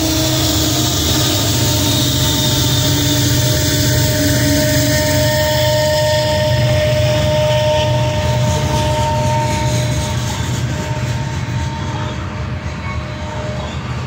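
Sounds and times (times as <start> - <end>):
freight train wheels clattering: 0.0 - 14.0.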